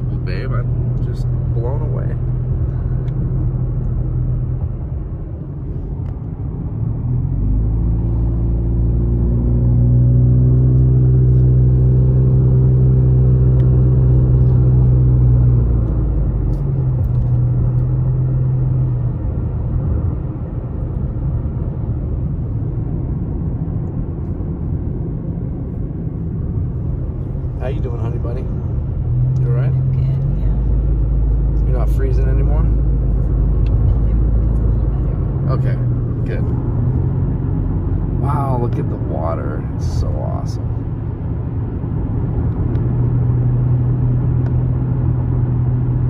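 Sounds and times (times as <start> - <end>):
car engine and road noise: 0.0 - 46.0.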